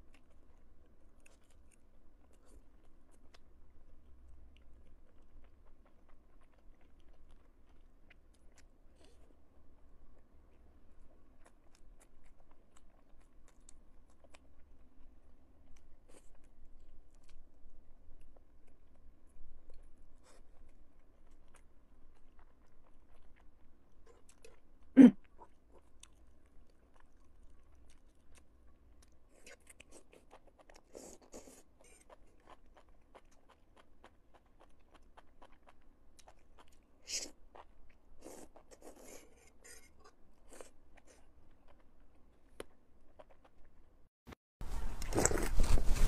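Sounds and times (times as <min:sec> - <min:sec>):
chewing: 0:00.0 - 0:43.8, 0:44.8 - 0:46.0.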